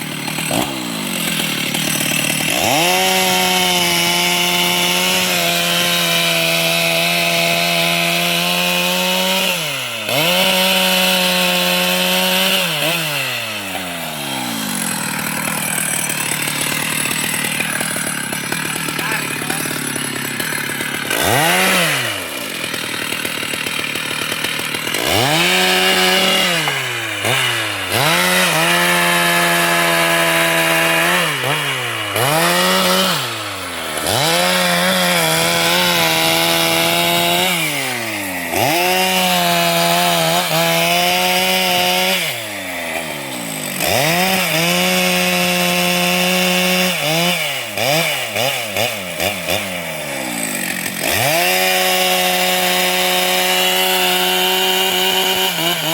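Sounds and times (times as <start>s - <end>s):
chainsaw revving: 0.0s - 55.9s.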